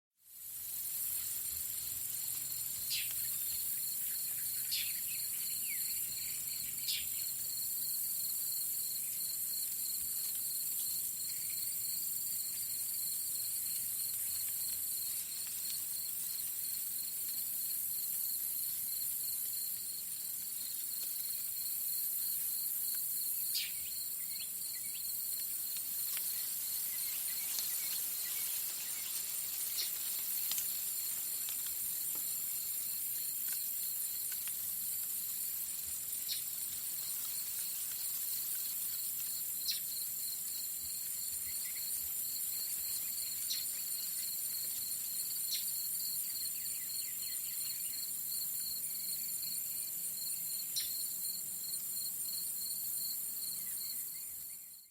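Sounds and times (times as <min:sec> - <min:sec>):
field crickets chirping: 0:00.3 - 0:54.9
high insect hiss: 0:00.3 - 0:54.9.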